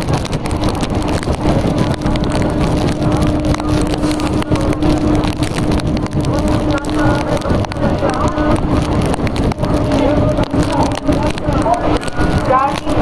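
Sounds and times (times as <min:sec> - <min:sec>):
train hum: 0:00.0 - 0:13.0
wind and track noise: 0:00.0 - 0:13.0.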